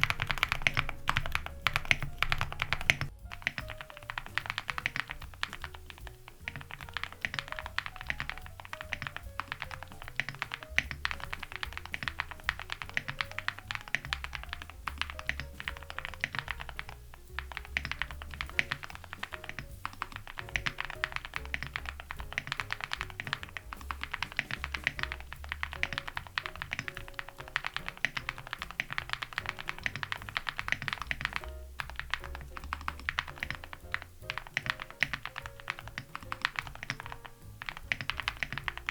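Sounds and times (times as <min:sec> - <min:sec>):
jazz background music: 0:00.0 - 0:38.9
typing on mechanical keyboard: 0:00.0 - 0:38.9.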